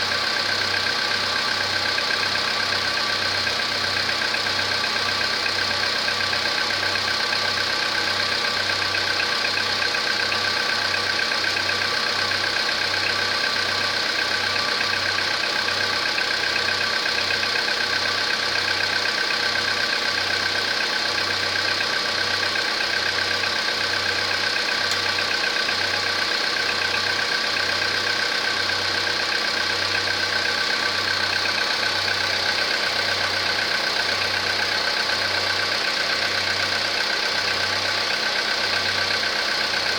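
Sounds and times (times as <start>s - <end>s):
car engine idling: 0.0s - 39.9s
engine knocking: 0.0s - 39.9s.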